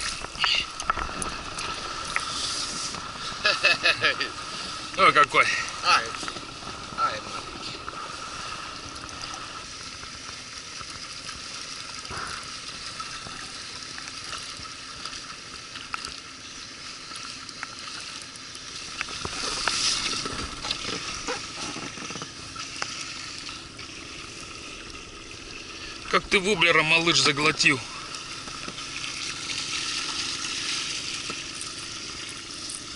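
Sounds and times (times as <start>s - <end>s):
rain and river water hiss: 0.0s - 32.9s.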